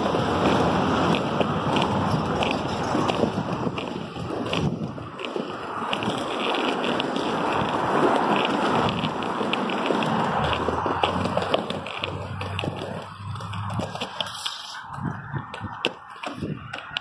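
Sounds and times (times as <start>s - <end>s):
roller skate wheels rolling on concrete: 0.0s - 17.0s
wind on microphone: 0.0s - 17.0s.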